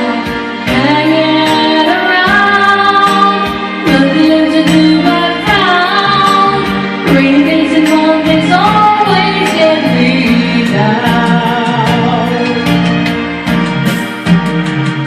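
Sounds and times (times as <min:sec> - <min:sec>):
woman singing: 0:00.0 - 0:13.1
backing track with beat: 0:00.0 - 0:15.0.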